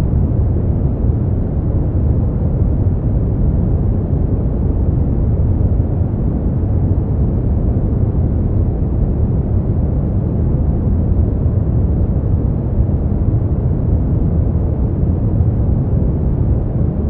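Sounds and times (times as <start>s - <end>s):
deep muffled white noise: 0.0s - 17.0s.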